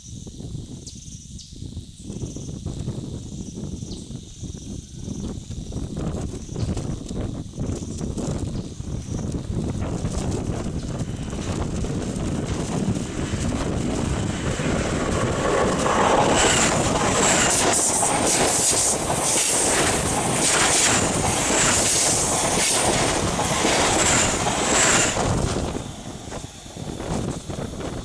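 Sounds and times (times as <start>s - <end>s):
train rumble: 5.1s - 28.0s.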